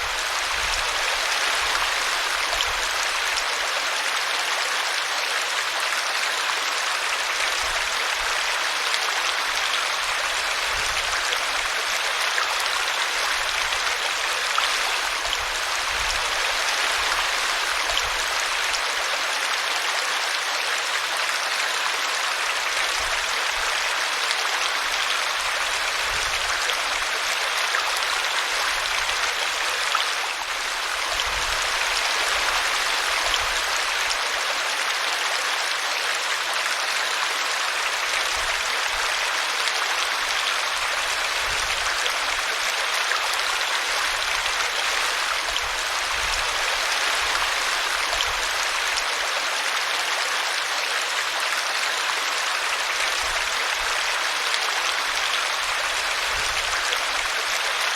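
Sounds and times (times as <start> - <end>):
brook babbling: 0.0 - 57.9.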